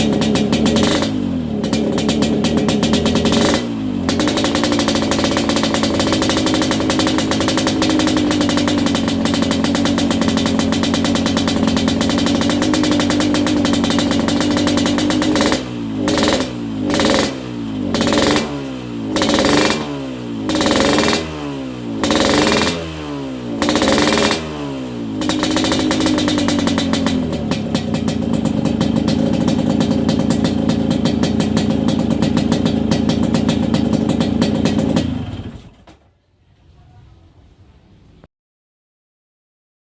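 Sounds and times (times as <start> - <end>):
motorcycle engine revving: 0.0 - 38.3.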